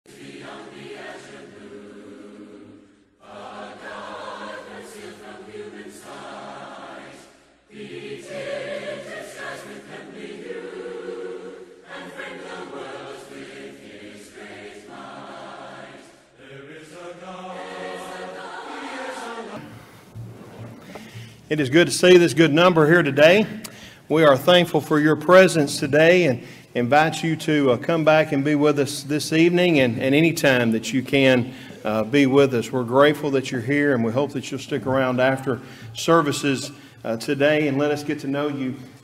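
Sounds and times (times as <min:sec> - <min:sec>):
choir singing a hymn: 0:00.1 - 0:21.4, 0:24.1 - 0:39.0.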